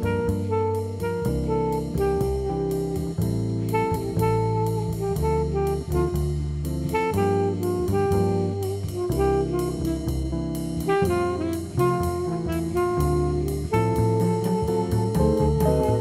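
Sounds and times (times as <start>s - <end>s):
instrumental jazz with brass: 0.0s - 16.0s.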